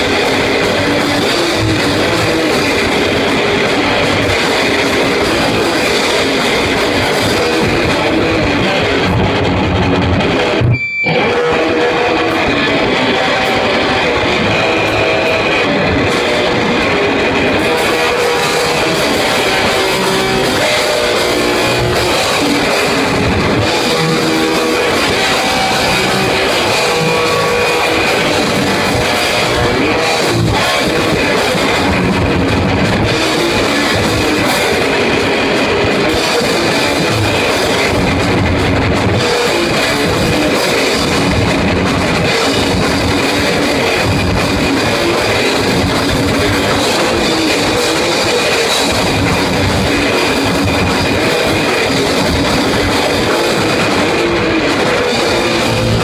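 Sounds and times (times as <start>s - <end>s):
drum kit: 0.0s - 56.0s
electric guitar: 0.0s - 56.0s
heavy rock music: 0.0s - 56.0s.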